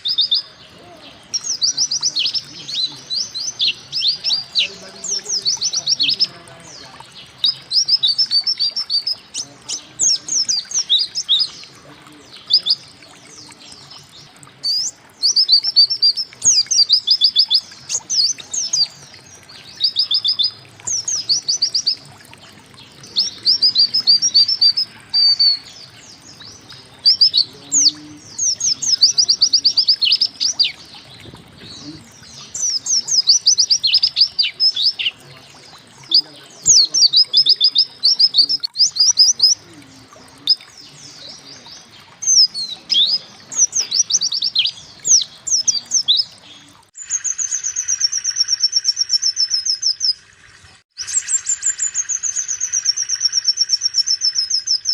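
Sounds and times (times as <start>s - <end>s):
bird chirping rapidly: 0.0s - 11.7s, 12.3s - 22.0s, 22.7s - 35.3s, 35.9s - 39.6s, 40.4s - 50.3s, 51.0s - 54.9s.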